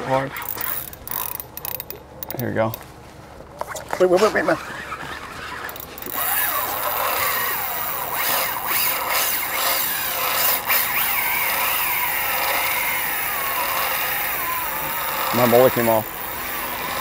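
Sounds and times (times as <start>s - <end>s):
fishing reel drag screaming: 0.0s - 2.0s, 4.5s - 17.0s.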